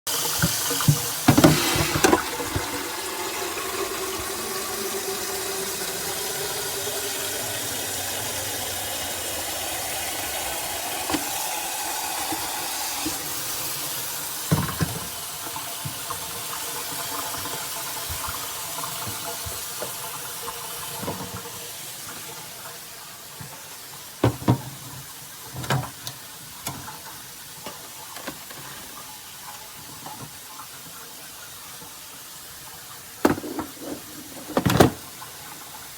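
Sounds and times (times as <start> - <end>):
coffee maker hissing: 0.1 - 35.9.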